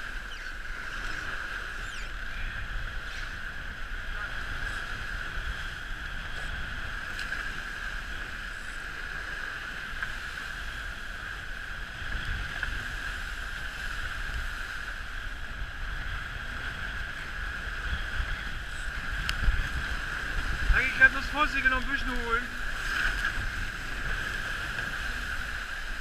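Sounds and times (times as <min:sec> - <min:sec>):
water rushing past hulls: 0:00.0 - 0:26.0
wind buffeting microphone: 0:00.0 - 0:26.0.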